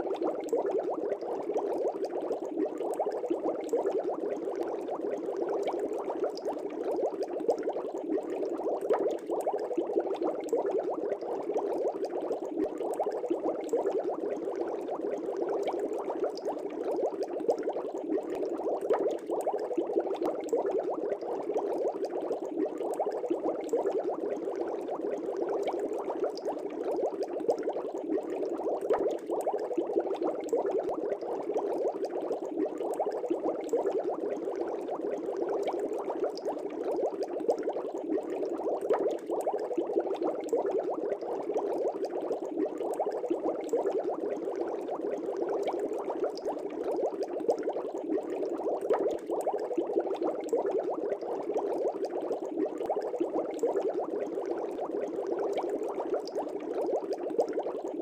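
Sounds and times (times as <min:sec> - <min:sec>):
aquarium air bubbling: 0:00.0 - 0:58.0.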